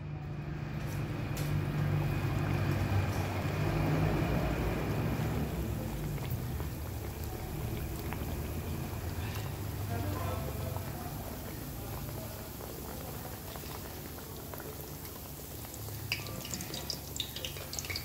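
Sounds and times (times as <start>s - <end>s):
dough sizzling in oil: 0.7s - 18.0s.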